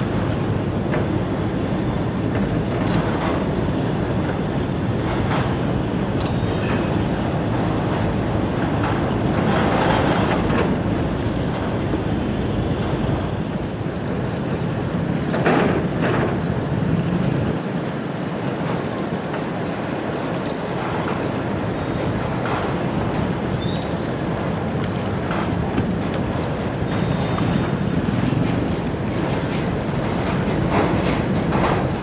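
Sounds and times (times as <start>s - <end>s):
traffic rumble and hiss: 0.0s - 32.0s.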